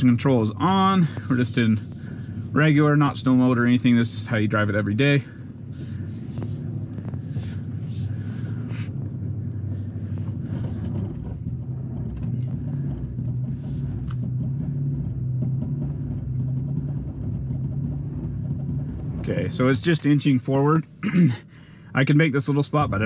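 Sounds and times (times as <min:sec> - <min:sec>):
engine running under load: 0:00.0 - 0:23.0.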